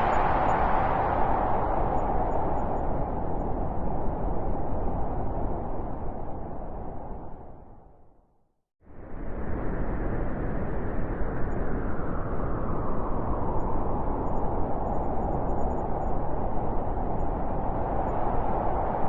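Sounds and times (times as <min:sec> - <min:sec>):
blizzard wind howling: 0:00.0 - 0:08.2, 0:08.8 - 0:19.0.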